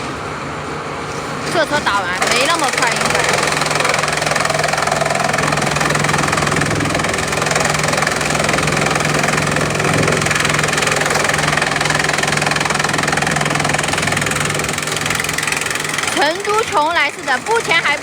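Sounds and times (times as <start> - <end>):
chipping machine droning: 0.0 - 18.0.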